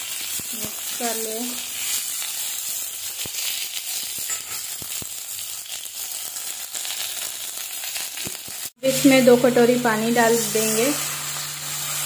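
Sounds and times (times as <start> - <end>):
mango slices sizzling in oil: 0.0 - 12.0.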